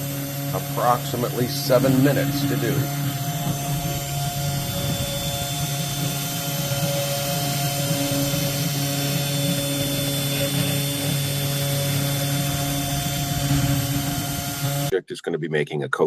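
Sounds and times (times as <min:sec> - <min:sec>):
router spindle motor humming: 0:00.0 - 0:14.9.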